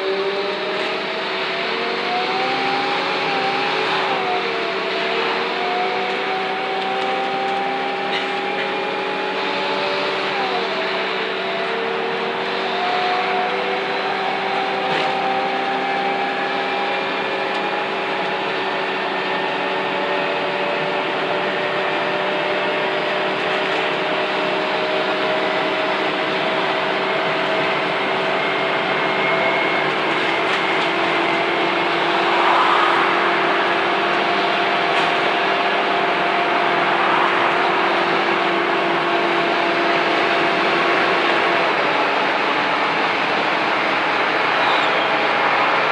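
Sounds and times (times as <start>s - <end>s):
engine whine: 0.0s - 45.9s
bus engine thrashing under load: 0.8s - 45.9s.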